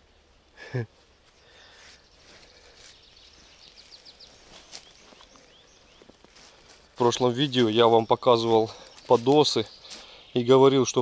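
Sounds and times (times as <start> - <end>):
small birds chirping and trilling: 0.0 - 11.0
footsteps rustling on forest floor: 1.2 - 11.0.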